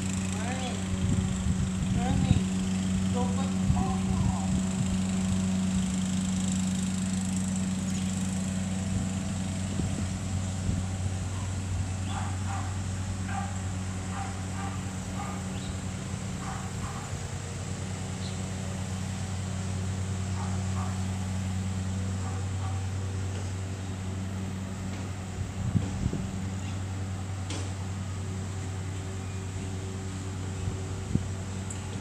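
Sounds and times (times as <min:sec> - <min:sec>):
golf cart engine running: 0:00.0 - 0:32.0.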